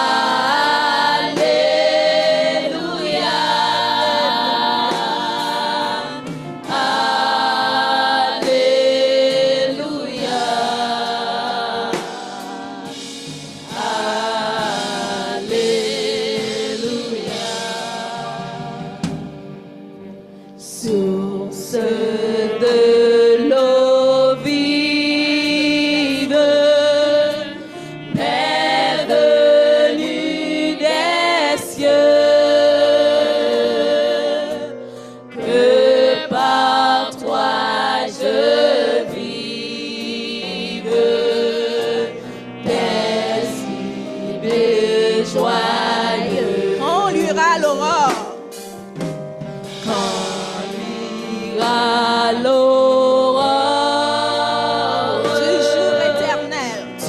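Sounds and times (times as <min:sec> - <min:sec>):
women's group singing gospel: 0:00.0 - 0:19.4, 0:20.6 - 0:48.1, 0:49.7 - 0:57.0.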